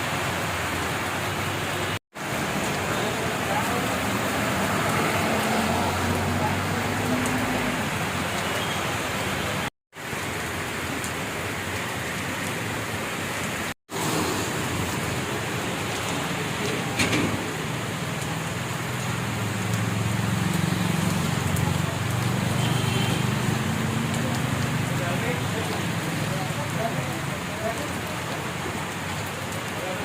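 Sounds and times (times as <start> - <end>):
heavy rain hissing: 0.0 - 30.0.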